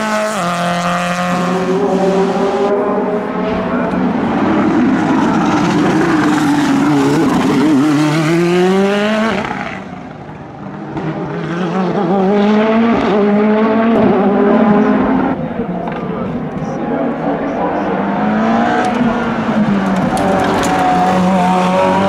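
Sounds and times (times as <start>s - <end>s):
racing car engines revving: 0.0s - 22.0s.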